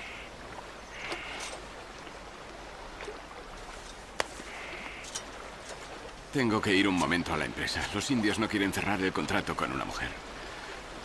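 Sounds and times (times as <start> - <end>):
water lapping at boat: 0.0 - 11.0.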